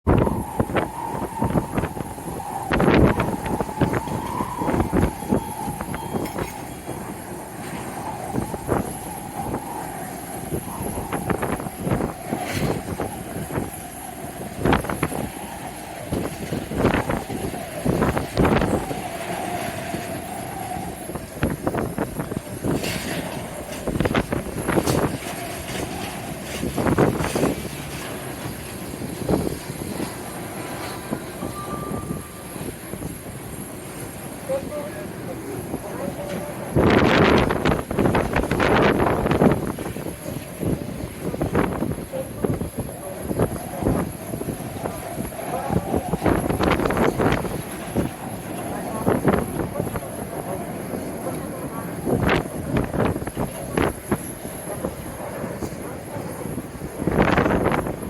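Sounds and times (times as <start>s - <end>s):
wind buffeting microphone: 0.0s - 58.0s
jet engines whining: 0.1s - 58.0s.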